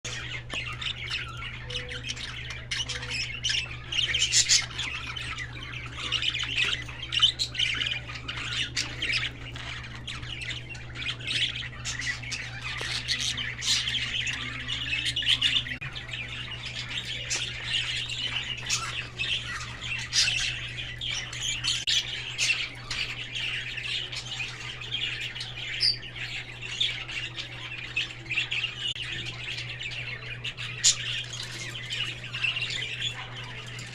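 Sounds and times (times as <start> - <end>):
birds chattering and squawking: 0.0 - 33.9.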